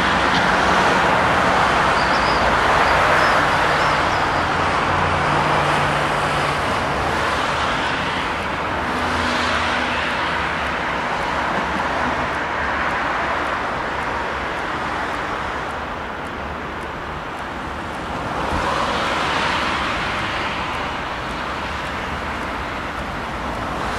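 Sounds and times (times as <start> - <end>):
cars passing: 0.0 - 23.9.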